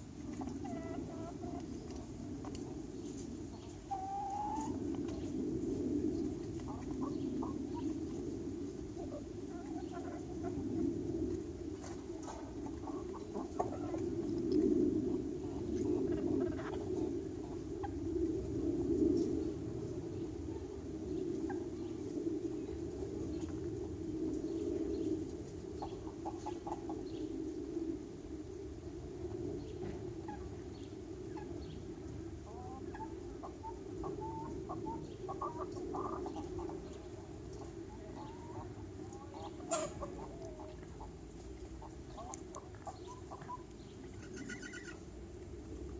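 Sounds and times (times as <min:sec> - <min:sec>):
chickens clucking: 0:00.0 - 0:27.6, 0:29.0 - 0:45.9.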